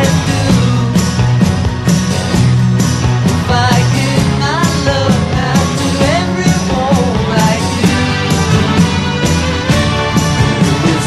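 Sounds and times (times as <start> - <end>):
loud song with steady beat: 0.0 - 11.0.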